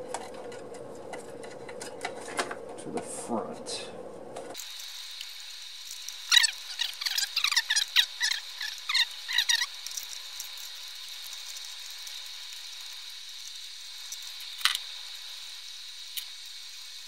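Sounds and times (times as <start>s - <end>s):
faint steady hiss: 3.3s - 17.0s.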